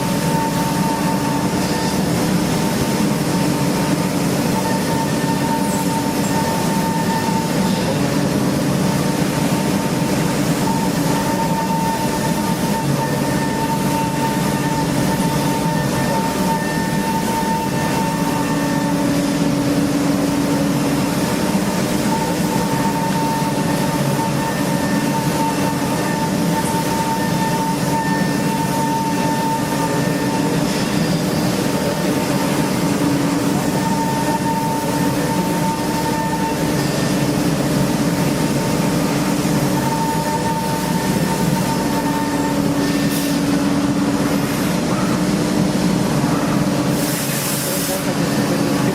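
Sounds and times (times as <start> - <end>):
machine mechanical roar: 0.0 - 48.9
machine whine: 0.0 - 48.9.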